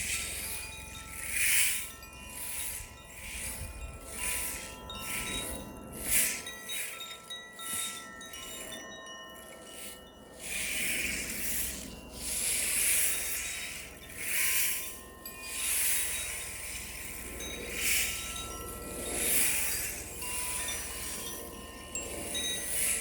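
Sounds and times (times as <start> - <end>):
metal chimes ringing: 0.0 - 23.0.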